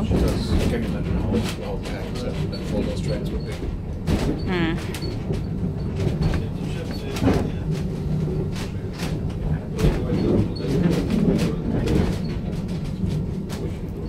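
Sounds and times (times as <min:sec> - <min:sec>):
funicular car rumbling: 0:00.0 - 0:14.0
wheels clicking on track: 0:00.0 - 0:14.0.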